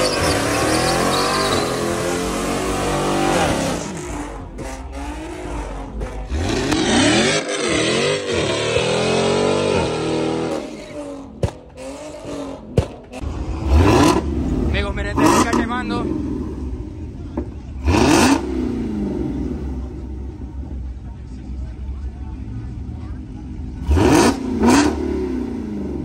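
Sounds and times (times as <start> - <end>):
car engine revving hard: 0.0 - 16.6, 17.8 - 20.0, 23.8 - 26.0.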